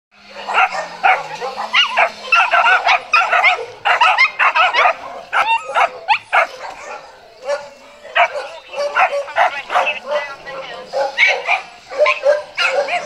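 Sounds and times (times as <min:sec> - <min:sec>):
dog yapping: 0:00.2 - 0:13.0.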